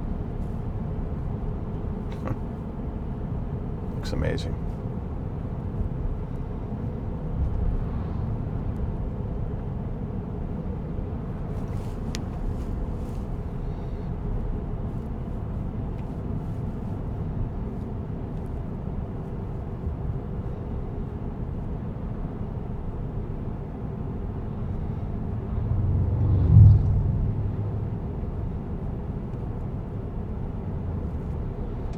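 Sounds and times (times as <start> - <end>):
road and tyre rumble in cabin: 0.0 - 31.9.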